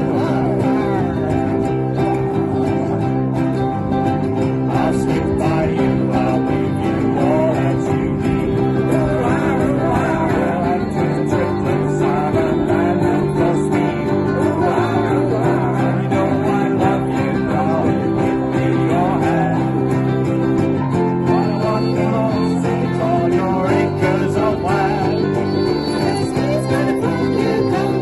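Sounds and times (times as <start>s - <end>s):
ukulele band strumming: 0.0s - 28.0s
voices singing: 0.0s - 28.0s.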